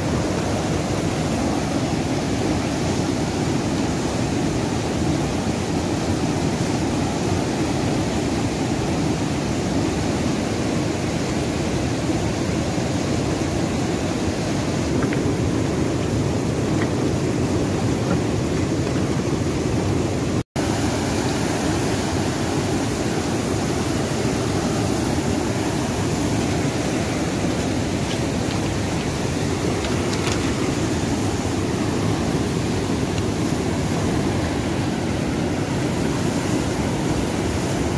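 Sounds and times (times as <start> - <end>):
river rushing over rocks: 0.0 - 37.9.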